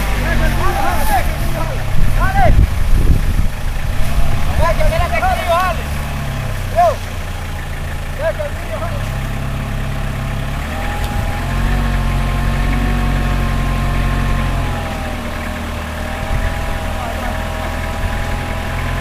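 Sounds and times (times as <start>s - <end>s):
heavy vehicle engine drone: 0.0s - 19.0s.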